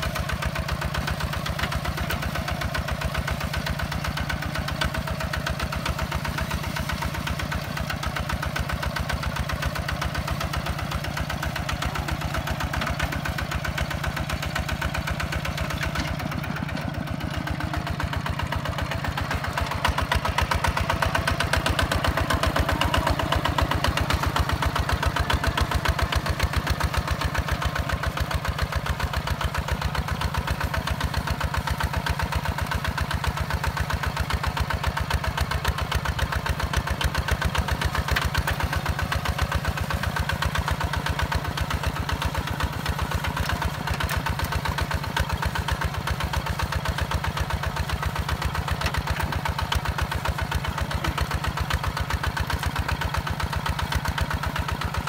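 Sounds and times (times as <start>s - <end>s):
tractor diesel engine chugging: 0.0s - 55.0s.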